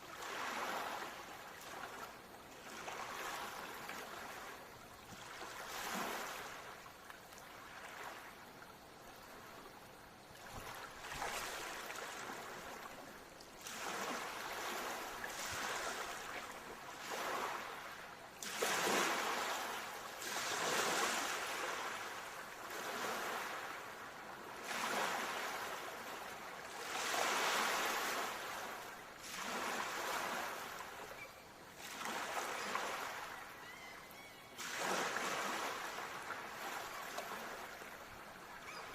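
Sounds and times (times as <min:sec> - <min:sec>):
ocean waves washing onto shore: 0:00.0 - 0:33.9, 0:34.6 - 0:38.9.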